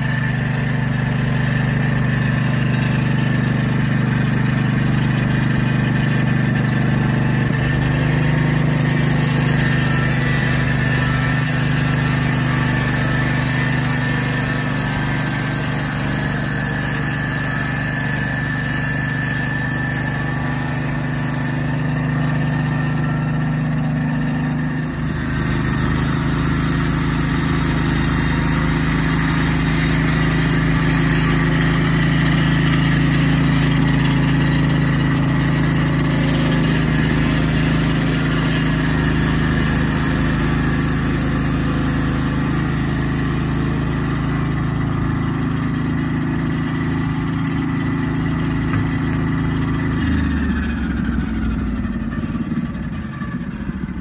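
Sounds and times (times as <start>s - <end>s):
circular saw blade cutting log: 0.0s - 54.0s
sawmill engine running: 0.0s - 54.0s.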